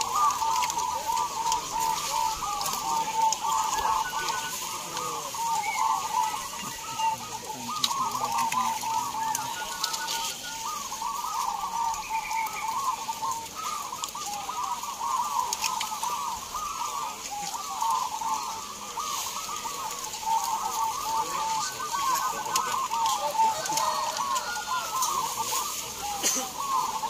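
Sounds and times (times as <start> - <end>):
doves cooing: 0.0 - 27.0.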